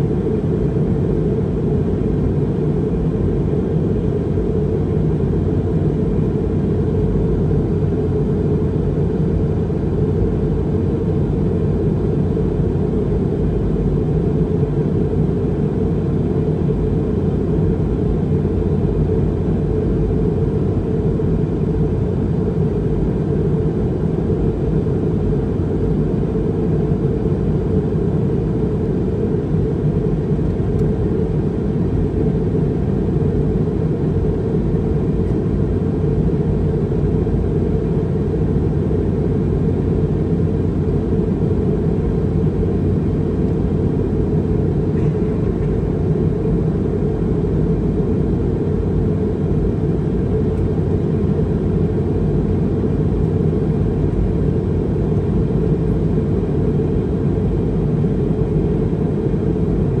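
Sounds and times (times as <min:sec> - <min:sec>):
airplane cabin engine rumble: 0:00.0 - 1:00.0.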